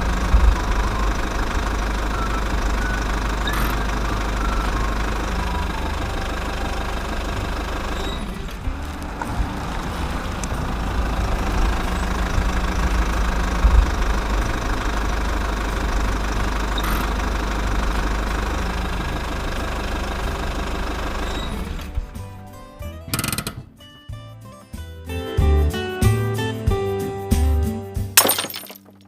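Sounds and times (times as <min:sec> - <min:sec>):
large vehicle engine idling: 0:00.0 - 0:23.6.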